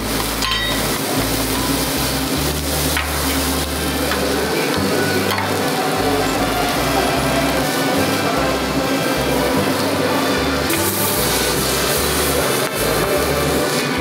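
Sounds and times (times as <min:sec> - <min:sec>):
food sizzling and frying: 0:00.0 - 0:14.0.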